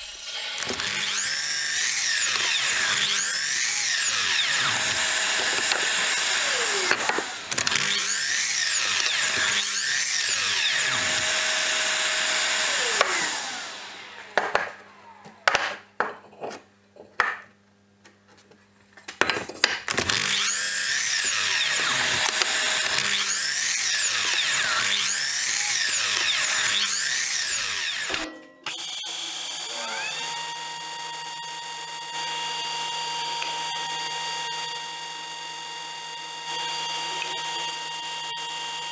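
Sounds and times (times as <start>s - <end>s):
saw motor winding down: 0.0s - 15.5s, 20.0s - 38.9s
miter saw cutting wood: 0.0s - 15.6s, 19.9s - 38.9s.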